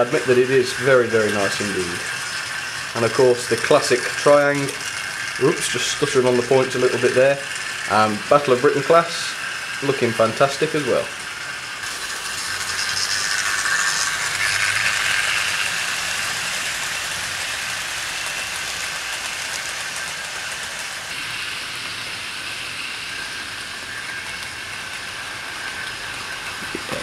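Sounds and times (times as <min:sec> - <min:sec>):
model train wheels rattling: 0:00.0 - 0:27.0.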